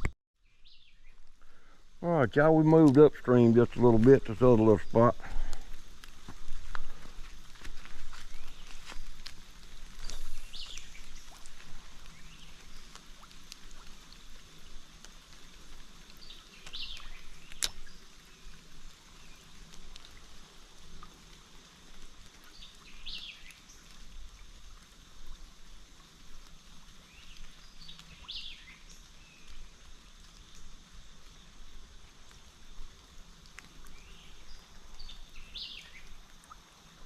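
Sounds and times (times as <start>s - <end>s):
creek water flowing: 0.0s - 37.0s.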